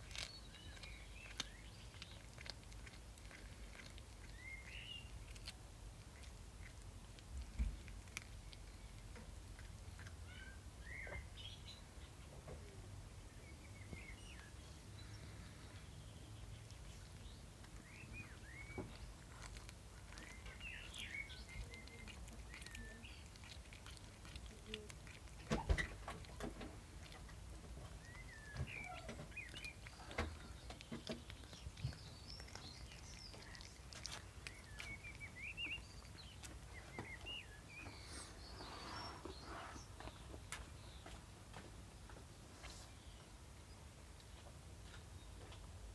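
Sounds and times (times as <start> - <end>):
small bird chirping: 0.0 - 5.6, 7.7 - 41.2.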